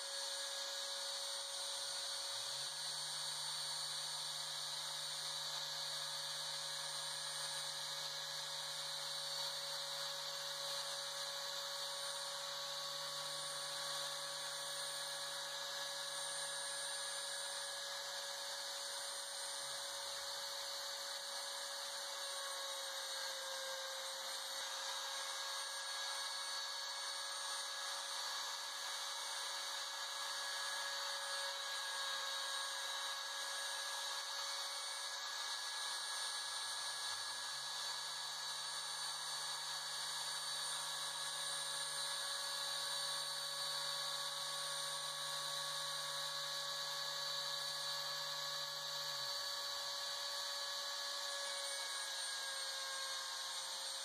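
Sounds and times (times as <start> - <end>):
router spindle whine: 0.0 - 54.0.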